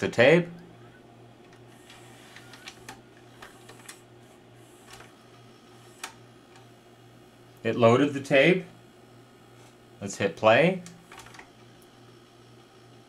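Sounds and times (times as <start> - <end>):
faint mechanism hum: 0.0 - 13.0.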